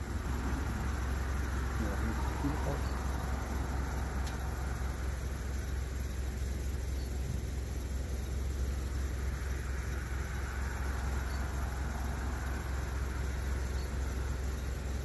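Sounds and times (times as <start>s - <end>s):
constant low rumble: 0.0s - 15.0s.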